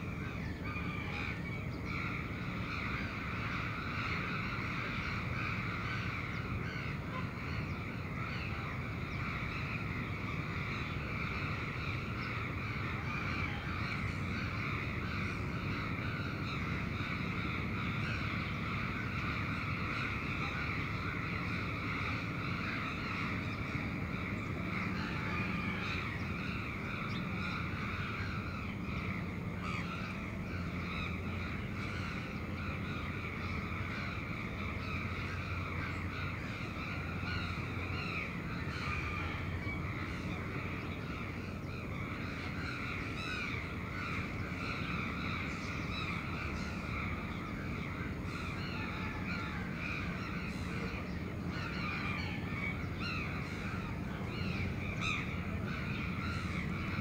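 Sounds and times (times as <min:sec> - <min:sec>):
crows cawing: 0:00.1 - 0:57.0.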